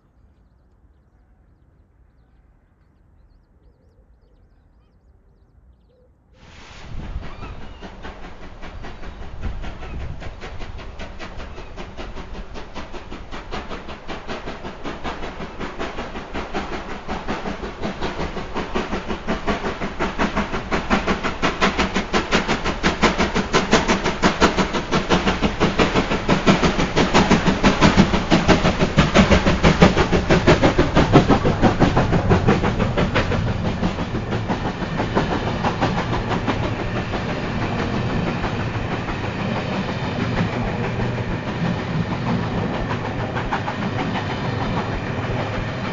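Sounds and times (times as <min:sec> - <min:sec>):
steam locomotive exhaust beating: 0:06.4 - 0:45.9
train coaches wheel clatter: 0:06.5 - 0:45.9.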